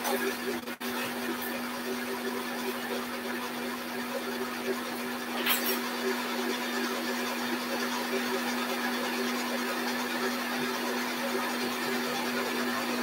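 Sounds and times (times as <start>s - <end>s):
stand mixer whisking: 0.0s - 13.0s.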